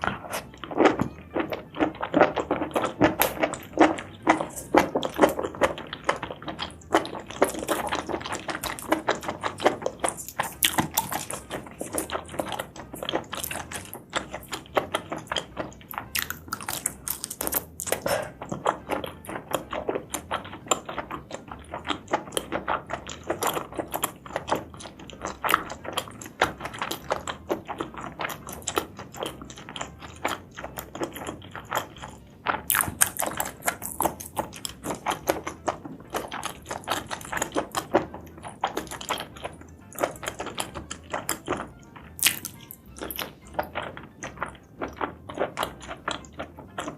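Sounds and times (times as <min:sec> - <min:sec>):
chewing and biting food: 0:00.0 - 0:46.9
mouth clicks and smacks: 0:00.0 - 0:46.9.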